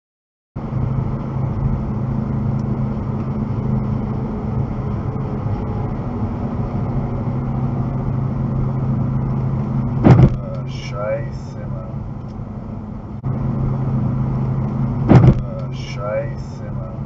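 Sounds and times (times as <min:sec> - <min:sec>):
car engine drone: 0:00.6 - 0:17.0
tyre and road noise: 0:00.6 - 0:17.0.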